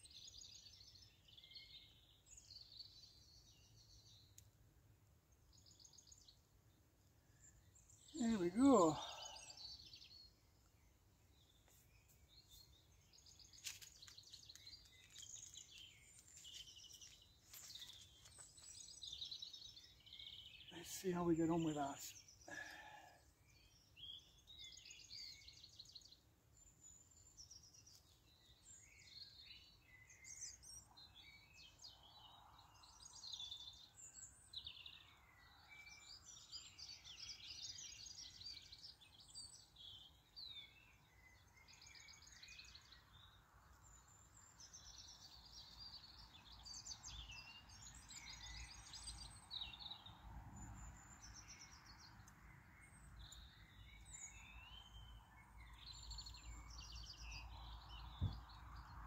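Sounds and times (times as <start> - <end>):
small birds singing and chirping: 0.0 - 59.0.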